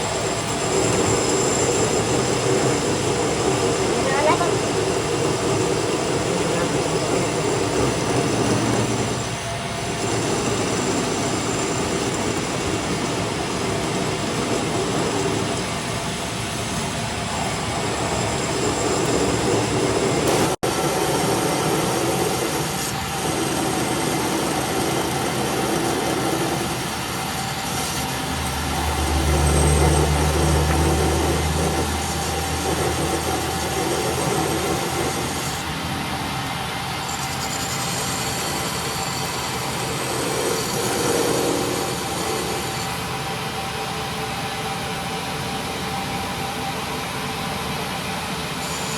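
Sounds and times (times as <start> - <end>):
workshop machinery running: 0.0 - 48.9.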